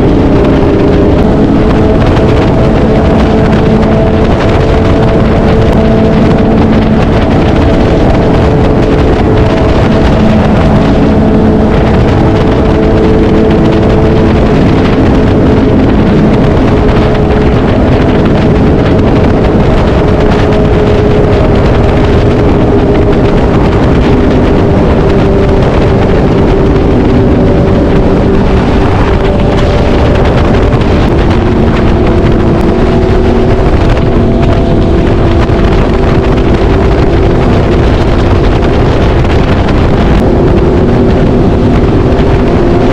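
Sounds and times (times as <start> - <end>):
motorcycle engine cruising: 0.0 - 42.9
wind noise on microphone: 0.0 - 42.9.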